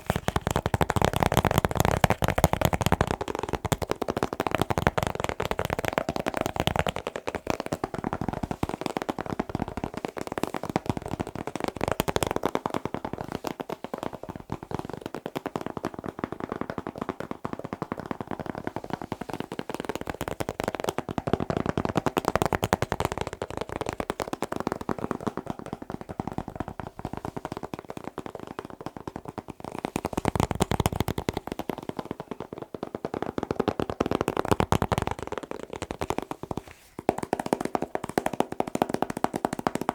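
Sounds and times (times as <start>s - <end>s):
fast tapping on hard object: 0.0s - 39.9s.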